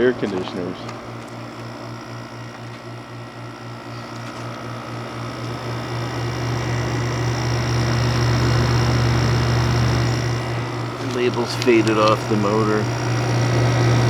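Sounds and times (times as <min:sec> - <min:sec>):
air conditioner compressor humming: 0:00.0 - 0:14.0.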